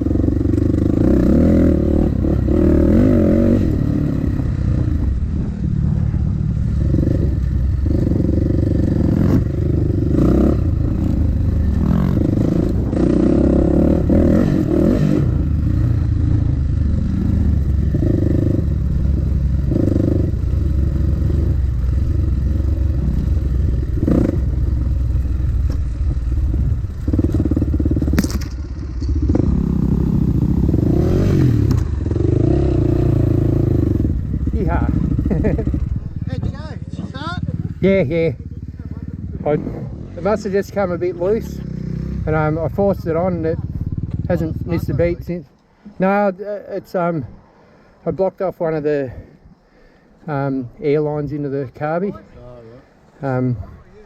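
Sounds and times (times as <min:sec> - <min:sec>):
dirt bike engine revving: 0:00.0 - 0:45.4.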